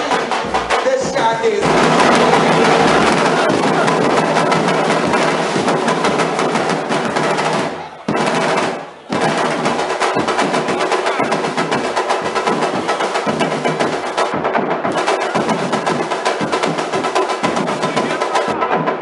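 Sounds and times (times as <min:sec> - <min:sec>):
snare drums: 0:00.0 - 0:19.0.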